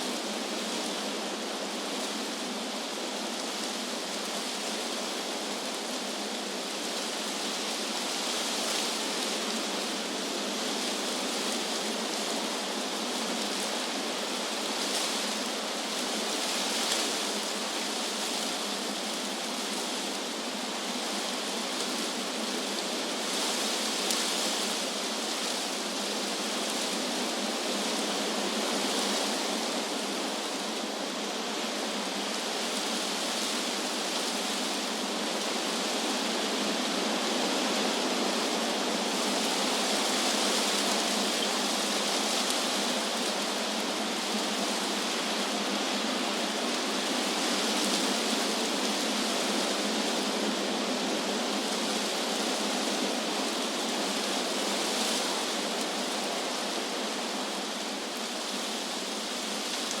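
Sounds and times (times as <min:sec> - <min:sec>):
wind rustling leaves: 0:00.0 - 1:00.0.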